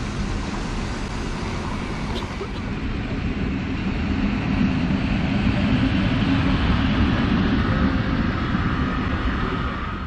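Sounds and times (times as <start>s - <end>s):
locomotive rumbling along tracks: 0.0s - 10.0s.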